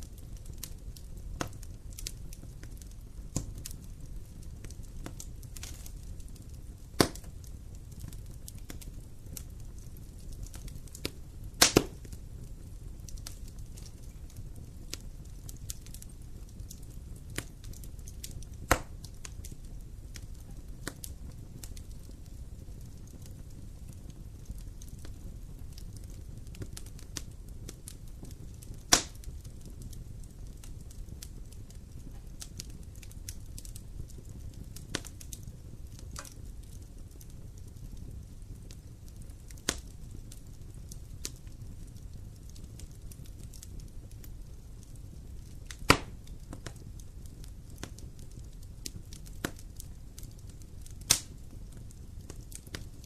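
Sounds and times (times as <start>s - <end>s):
burning wood crackling and popping: 0.0s - 53.0s
rumble of campfire flames: 0.0s - 53.0s.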